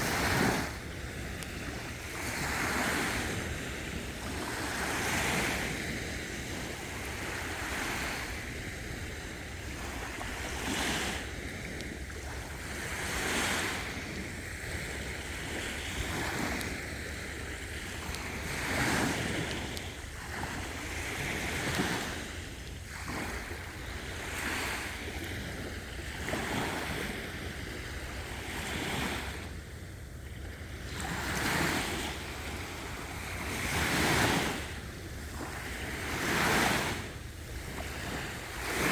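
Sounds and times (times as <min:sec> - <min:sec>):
sea waves washing onto beach: 0:00.0 - 0:38.9
wind rumbling on microphone: 0:00.0 - 0:38.9.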